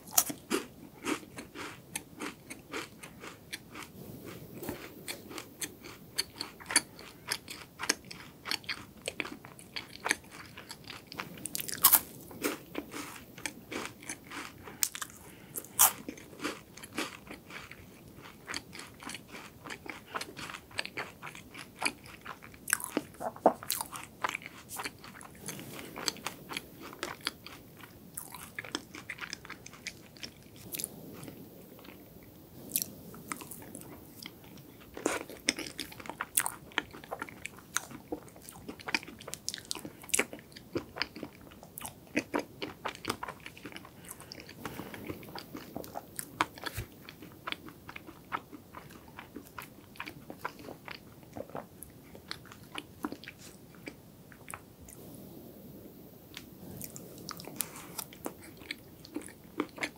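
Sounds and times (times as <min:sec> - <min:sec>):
wet chewing: 0:00.0 - 0:55.0, 0:56.3 - 0:59.9.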